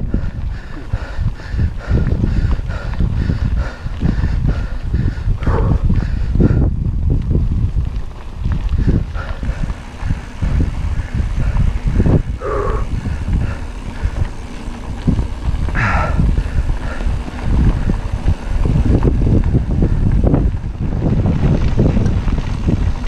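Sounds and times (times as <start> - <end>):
mountain bike rattling on dirt: 0.0 - 23.0
wind buffeting microphone: 0.0 - 23.0.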